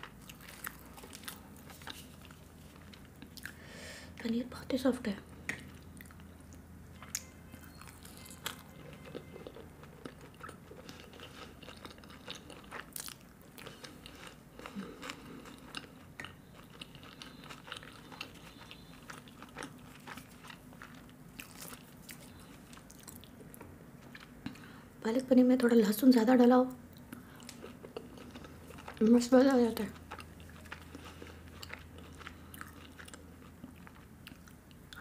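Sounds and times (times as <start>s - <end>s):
person chewing food: 0.0s - 3.6s, 5.4s - 24.8s, 26.9s - 29.1s, 29.8s - 35.0s.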